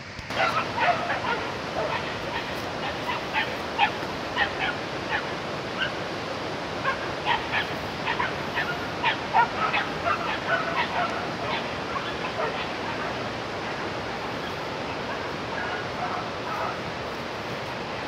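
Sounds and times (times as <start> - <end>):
background hiss: 0.0 - 18.0
dogs barking and yelping: 0.3 - 6.0, 6.8 - 17.0.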